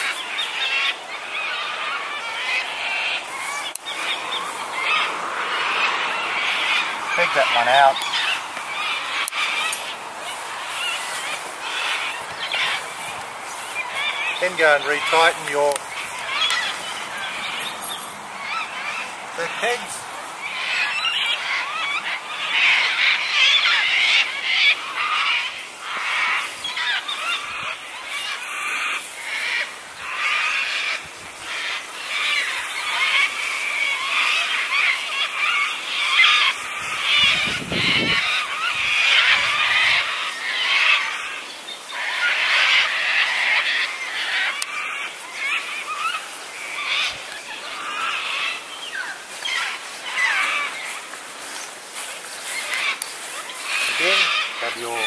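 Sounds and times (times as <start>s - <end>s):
chorus of birds calling: 0.0s - 55.0s.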